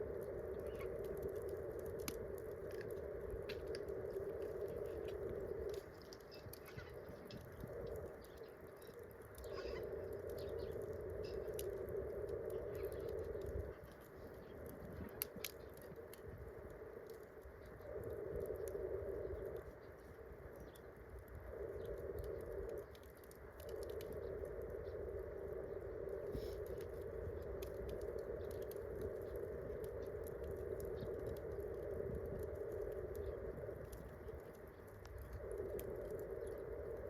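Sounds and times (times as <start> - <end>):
campfire crackling and popping: 0.0 - 37.0
low hushing noise: 0.0 - 37.0.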